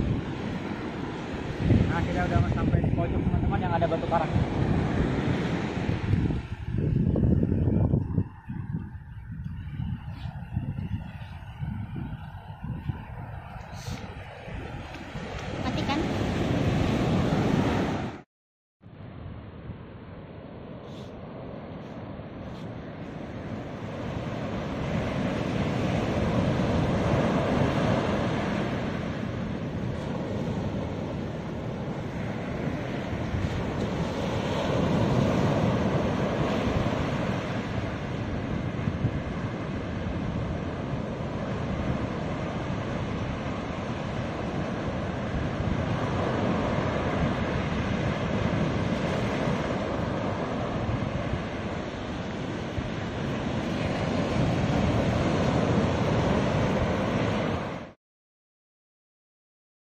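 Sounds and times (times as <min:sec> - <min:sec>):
ocean surf breaking on beach: 0:00.0 - 0:08.7, 0:09.3 - 0:18.2, 0:18.9 - 0:58.0.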